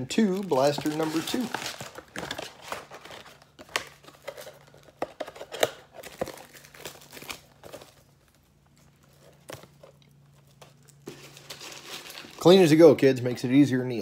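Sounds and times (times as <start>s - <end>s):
wrappers crinkling: 0.0s - 12.8s.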